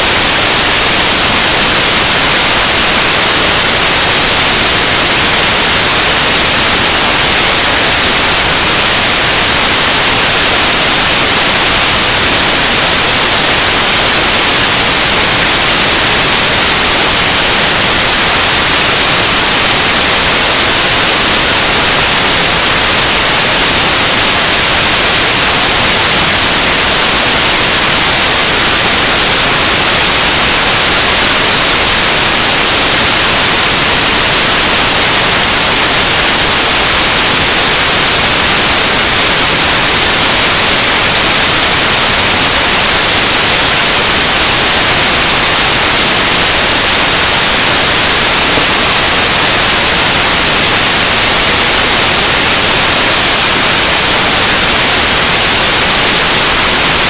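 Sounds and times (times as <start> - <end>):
harsh static hiss noise music: 0.0 - 57.0.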